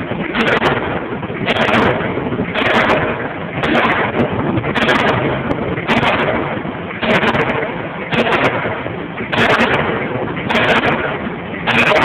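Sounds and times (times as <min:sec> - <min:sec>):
continuous machine hum: 0:00.0 - 0:12.0.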